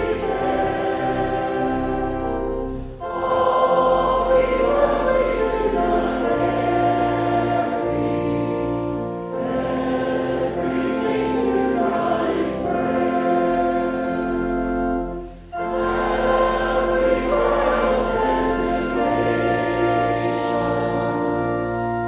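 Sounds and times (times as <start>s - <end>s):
congregation singing a hymn: 0.0s - 22.0s.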